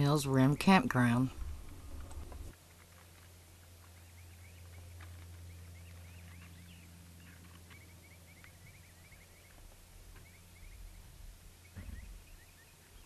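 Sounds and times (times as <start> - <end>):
songbird chirping: 0.0 - 2.5, 3.9 - 13.0
steady low hum: 0.0 - 13.0.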